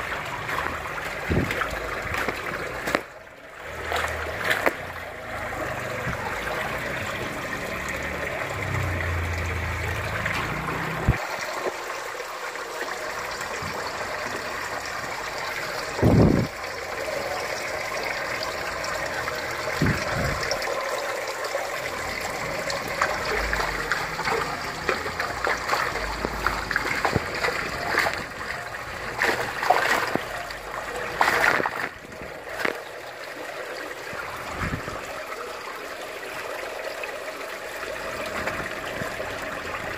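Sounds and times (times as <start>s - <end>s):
water pouring and trickling: 0.0s - 39.9s
water splashes: 0.0s - 39.9s.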